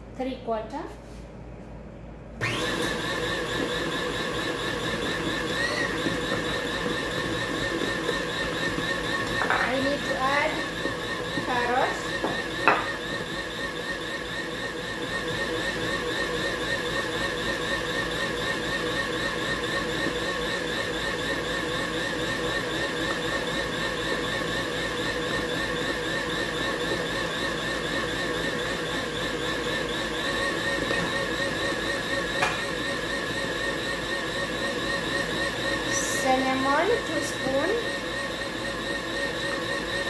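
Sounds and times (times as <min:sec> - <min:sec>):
stand mixer motor whine: 0:02.4 - 0:40.0.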